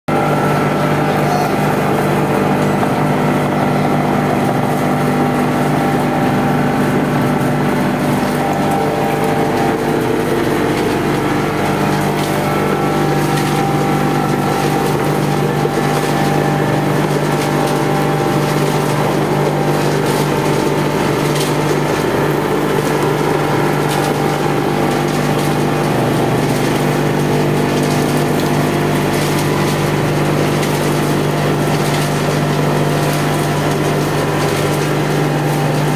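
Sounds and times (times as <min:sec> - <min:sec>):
machinery motor drone: 0:00.1 - 0:35.9.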